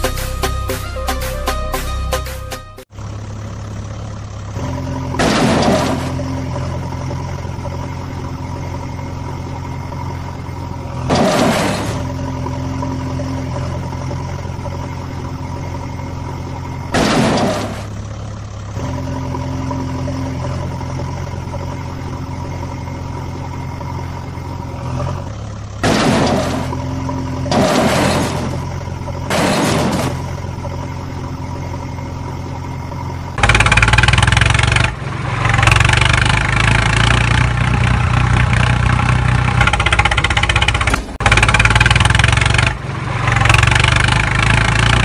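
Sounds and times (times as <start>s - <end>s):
engine idling: 2.9s - 45.0s.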